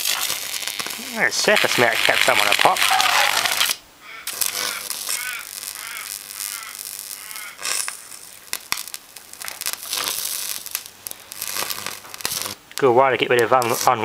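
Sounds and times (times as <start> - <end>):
electric arc crackling and snapping: 0.0 - 14.0.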